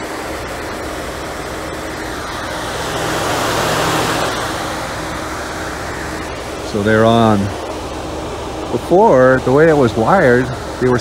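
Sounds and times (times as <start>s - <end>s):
car engine idling: 0.0s - 11.0s
electric cooling fans running: 0.0s - 11.0s.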